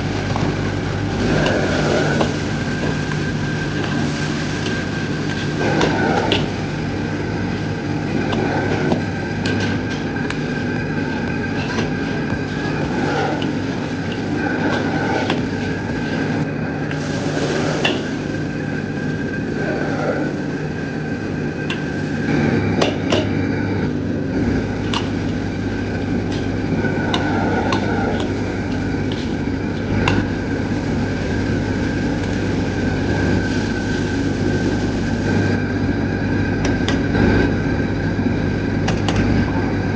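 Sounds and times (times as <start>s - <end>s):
gas stove rumbling: 0.0s - 39.9s.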